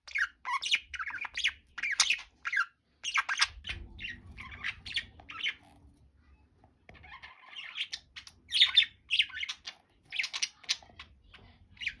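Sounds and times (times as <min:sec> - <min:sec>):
budgerigars chirping and squawking: 0:00.0 - 0:05.9, 0:06.9 - 0:12.0.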